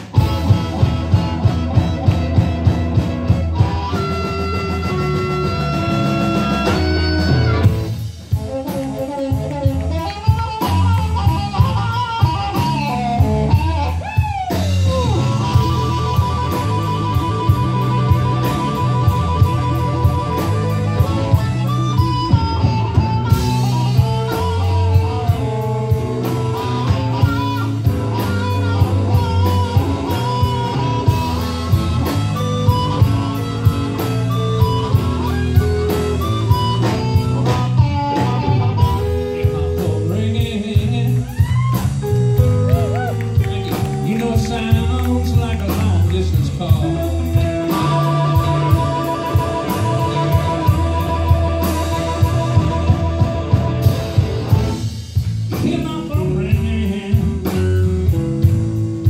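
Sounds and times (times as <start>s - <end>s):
bass guitar: 0.0s - 59.0s
drum kit beat: 0.0s - 59.0s
lead guitar: 0.0s - 59.0s.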